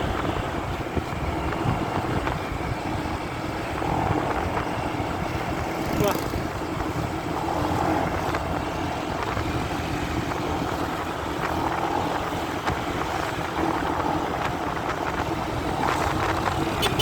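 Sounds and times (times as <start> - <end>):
muffled motorcycle engine: 0.0 - 17.0
wind rush: 0.0 - 17.0.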